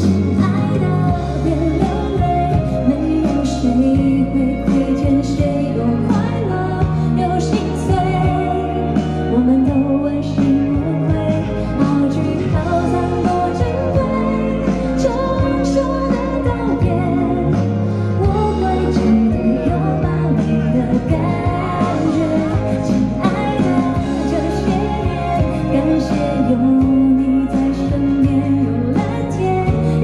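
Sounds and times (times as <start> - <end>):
woman singing a ballad: 0.0 - 30.0.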